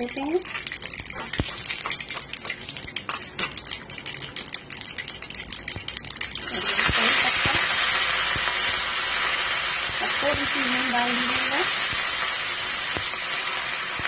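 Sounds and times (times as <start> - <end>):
loud oil sizzle: 0.0 - 14.0
seeds crackling in hot oil: 0.0 - 14.0.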